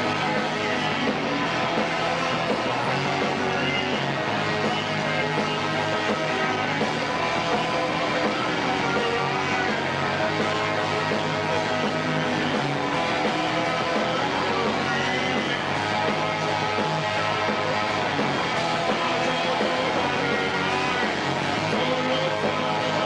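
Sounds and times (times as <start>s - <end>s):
drums: 0.0s - 23.0s
electric guitars: 0.0s - 23.0s
rock band playing live: 0.0s - 23.0s.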